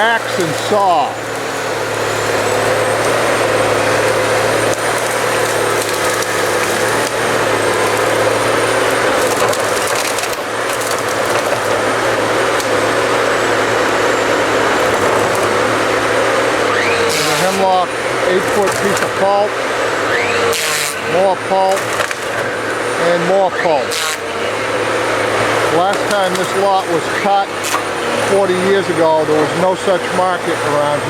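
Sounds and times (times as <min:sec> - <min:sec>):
wood cracking and splintering: 0:00.0 - 0:30.7
machine engine under load: 0:00.0 - 0:31.0.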